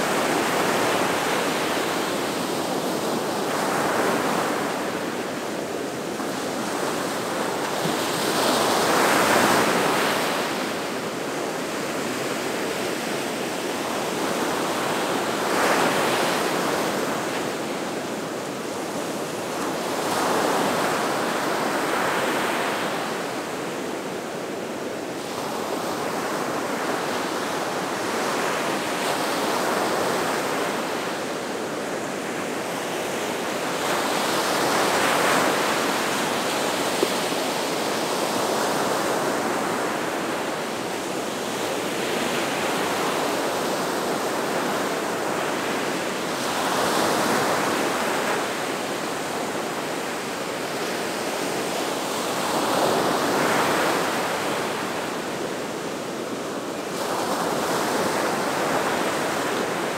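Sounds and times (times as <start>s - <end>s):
waves breaking on shore: 0.0s - 59.9s.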